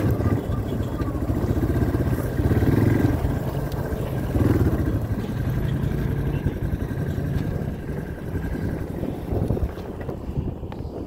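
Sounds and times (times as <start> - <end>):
atv engine running under load: 0.0 - 11.0.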